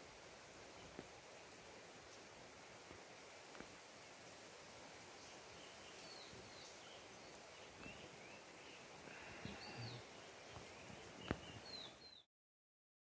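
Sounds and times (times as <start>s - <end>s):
faint forest ambience: 0.0s - 12.3s.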